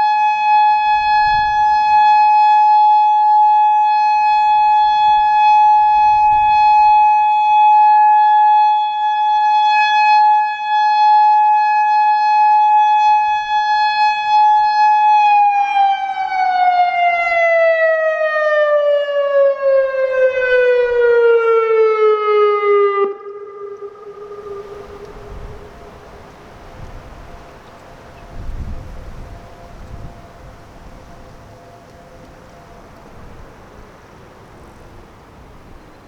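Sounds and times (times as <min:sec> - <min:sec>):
warning siren steady tone: 0:00.0 - 0:35.8
faint low siren tone: 0:00.0 - 0:36.0.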